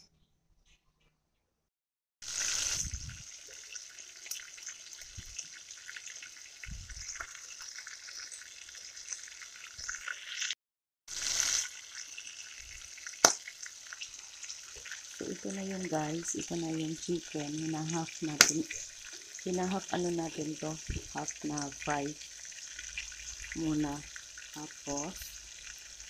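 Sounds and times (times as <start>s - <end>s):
chicken sizzling in oil: 2.2s - 26.0s.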